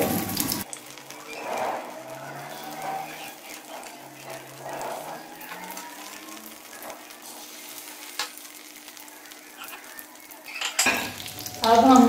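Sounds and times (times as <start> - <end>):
kebabs sizzling in oil: 0.0 - 12.0.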